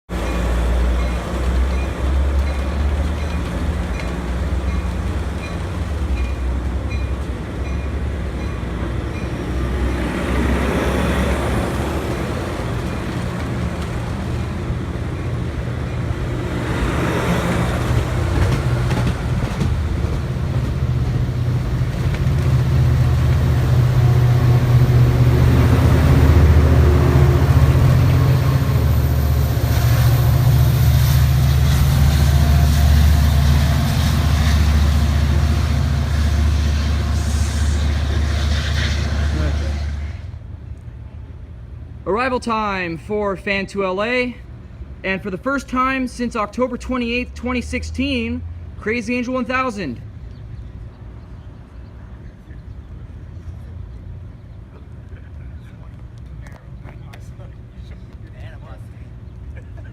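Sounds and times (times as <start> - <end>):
diesel locomotive engine drone: 0.1 - 59.9.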